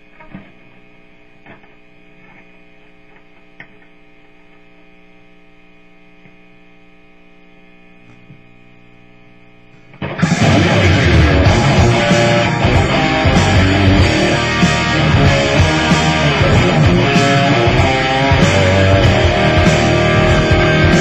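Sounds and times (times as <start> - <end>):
distorted electric guitar music: 0.0 - 21.0
guitar amplifier hum and buzz: 0.0 - 21.0.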